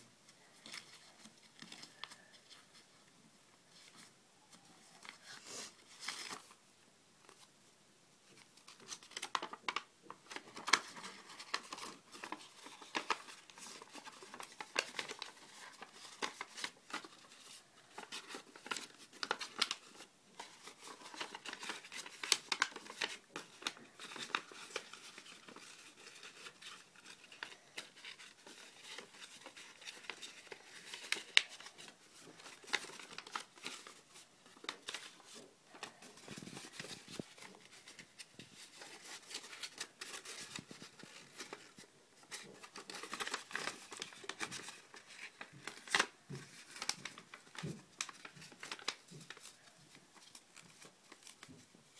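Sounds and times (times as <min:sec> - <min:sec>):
paper rustling and crackling: 0:00.3 - 0:02.9, 0:03.7 - 0:06.6, 0:08.2 - 0:51.9.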